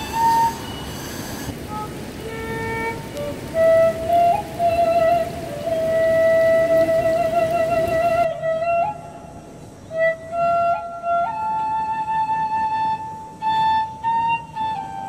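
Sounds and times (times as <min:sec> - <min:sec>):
slow wind instrument melody: 0:00.0 - 0:15.0.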